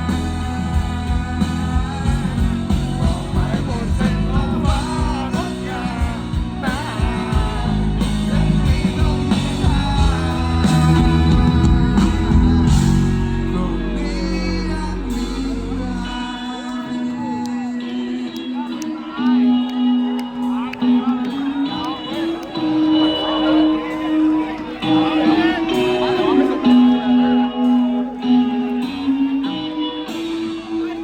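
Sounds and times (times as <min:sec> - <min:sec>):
bass guitar: 0:00.0 - 0:31.0
drums: 0:00.0 - 0:31.0
electric guitar: 0:00.0 - 0:31.0
person singing: 0:00.0 - 0:31.0.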